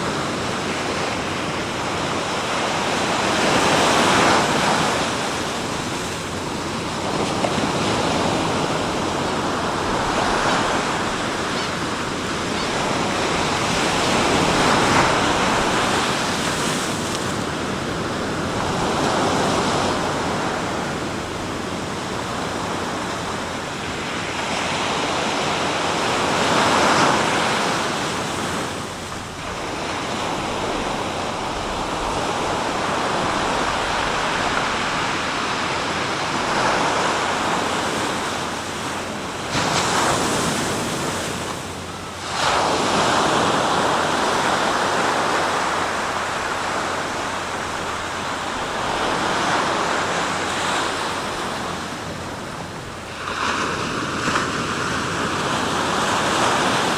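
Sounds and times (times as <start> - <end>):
waves breaking on shore: 0.0 - 56.9.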